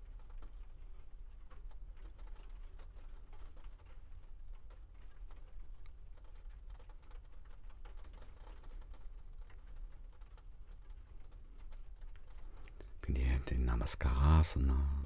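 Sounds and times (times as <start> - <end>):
faint small clicks: 0.0 - 13.0.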